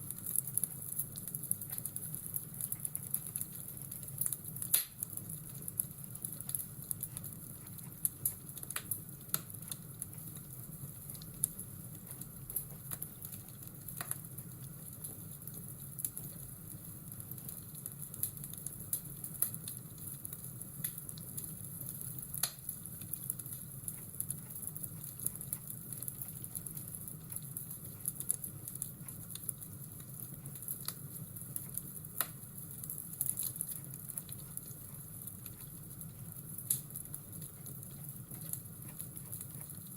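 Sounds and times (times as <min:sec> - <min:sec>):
fireplace crackling and popping: 0:00.0 - 0:39.9.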